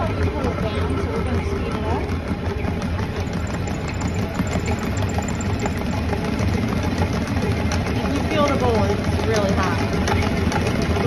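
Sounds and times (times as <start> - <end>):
stand mixer motor hum: 0.0 - 11.0.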